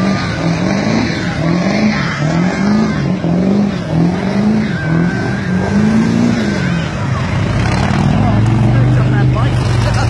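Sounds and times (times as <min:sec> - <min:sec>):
car engine revving hard: 0:00.0 - 0:10.0.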